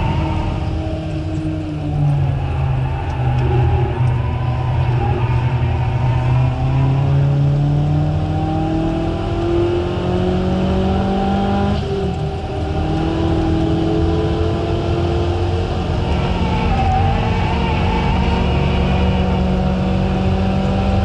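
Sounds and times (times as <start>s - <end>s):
car engine revving under throttle: 0.0s - 21.0s
road and tyre noise: 0.0s - 21.0s.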